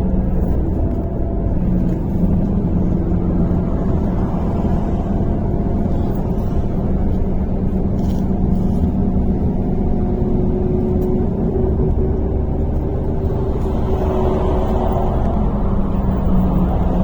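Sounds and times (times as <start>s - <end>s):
bus engine drone: 0.0s - 17.0s
road rumble: 0.0s - 17.0s.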